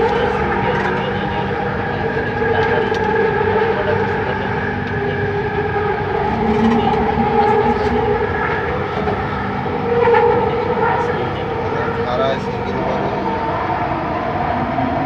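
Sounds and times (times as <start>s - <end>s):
train running at speed: 0.0s - 15.0s
whining tones: 0.0s - 15.0s.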